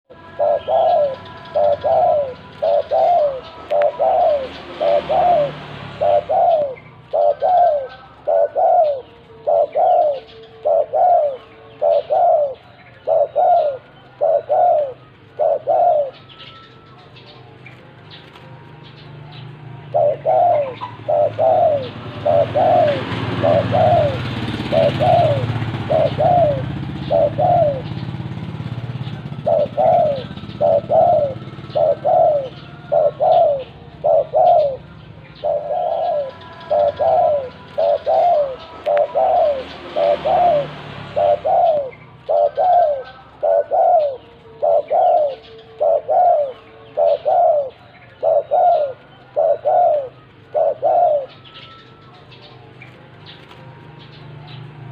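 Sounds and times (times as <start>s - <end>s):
dove cooing: 0.0s - 54.9s.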